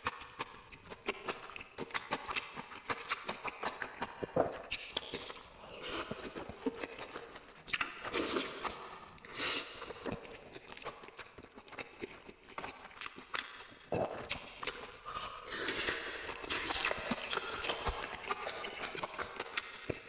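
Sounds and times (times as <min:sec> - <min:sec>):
wet chewing and lip smacks: 0:00.0 - 0:20.0.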